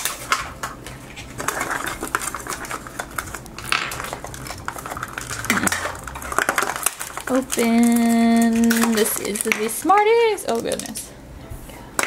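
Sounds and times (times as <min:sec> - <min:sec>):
wrapper crinkling: 0:00.0 - 0:11.1.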